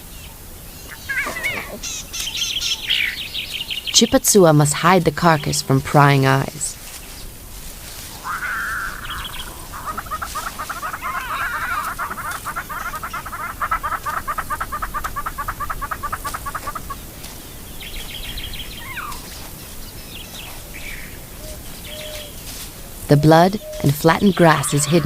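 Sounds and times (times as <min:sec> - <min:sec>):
bird calling: 0:00.7 - 0:07.2, 0:07.9 - 0:22.4, 0:23.0 - 0:25.0.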